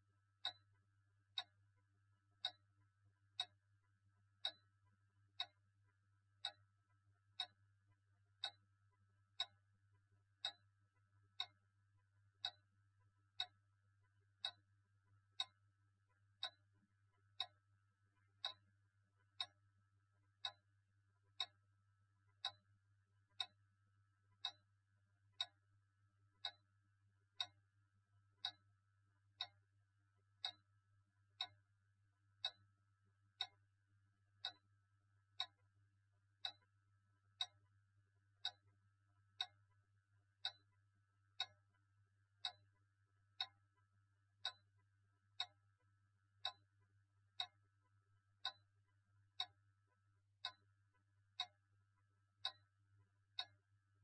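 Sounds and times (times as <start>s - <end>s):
clock ticking: 0.2s - 21.7s, 22.3s - 22.7s, 23.3s - 24.7s, 25.4s - 25.7s, 26.3s - 29.7s, 30.3s - 31.7s, 32.3s - 33.7s, 34.4s - 35.7s, 36.4s - 37.8s, 38.4s - 39.8s, 40.4s - 53.7s.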